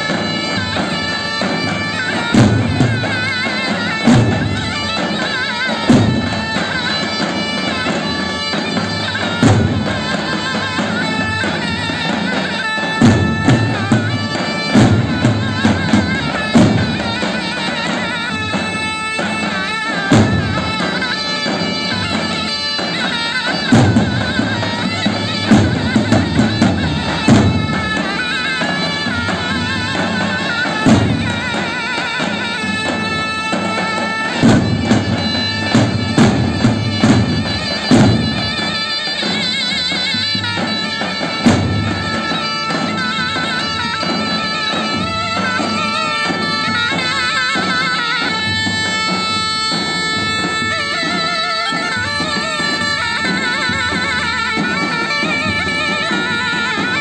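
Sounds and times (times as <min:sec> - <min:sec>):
davul drums beating: 0:00.0 - 0:57.0
zurna playing folk melody: 0:00.0 - 0:57.0.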